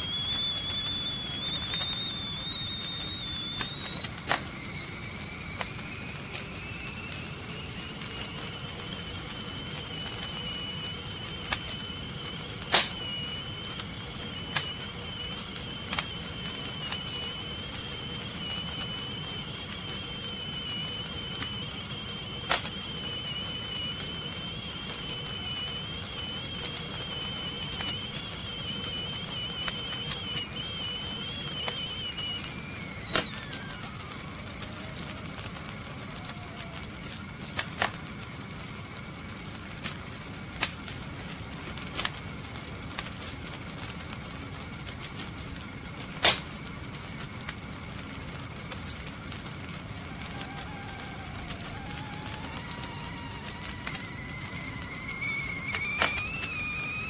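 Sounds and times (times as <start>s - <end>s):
low rush of gas flame: 0.0s - 57.0s
sharp crackles: 0.0s - 57.0s
tea kettle whistling: 0.0s - 57.0s.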